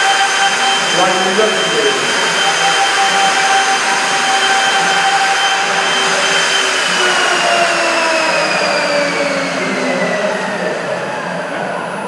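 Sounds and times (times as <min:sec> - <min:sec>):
router spindle motor whining: 0:00.0 - 0:12.0.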